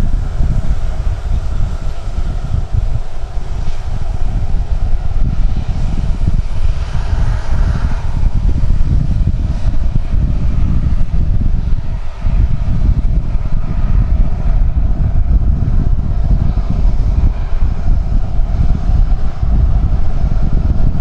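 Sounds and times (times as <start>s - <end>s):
distant jet engines rumbling: 0.0s - 21.0s
wind buffeting microphone: 0.0s - 21.0s.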